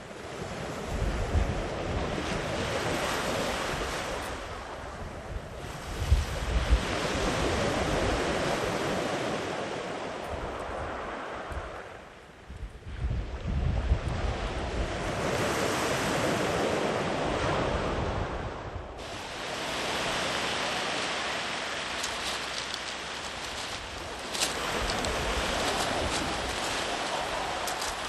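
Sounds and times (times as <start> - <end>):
sea waves breaking on shore: 0.0 - 12.3, 12.9 - 28.0.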